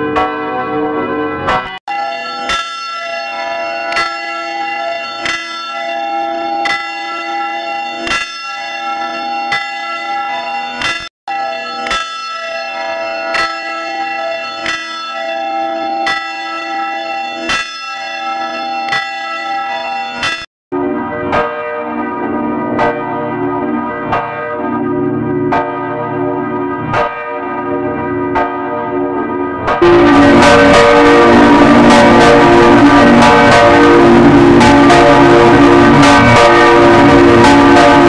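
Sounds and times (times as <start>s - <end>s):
church bell tolling: 0.0s - 38.0s.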